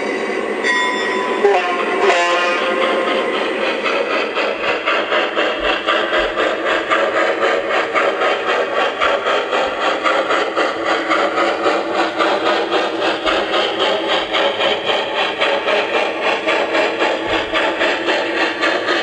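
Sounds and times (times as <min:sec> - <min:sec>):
model steam locomotive chuffing: 0:00.0 - 0:19.0
model train running on track: 0:00.0 - 0:19.0.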